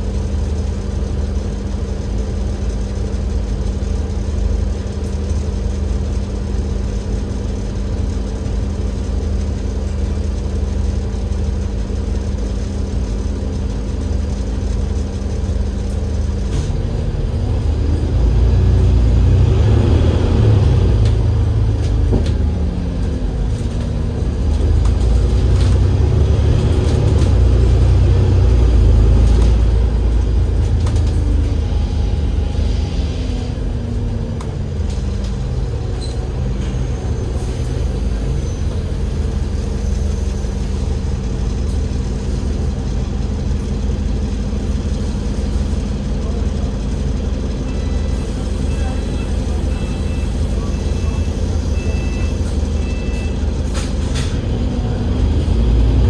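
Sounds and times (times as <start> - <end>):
bus engine accelerating: 0.0 - 56.0
bus engine idling: 0.0 - 56.0.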